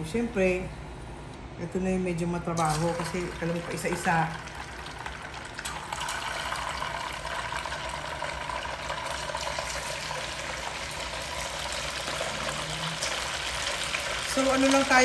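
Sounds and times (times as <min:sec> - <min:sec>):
pork sizzling in hot oil: 0:02.9 - 0:15.0.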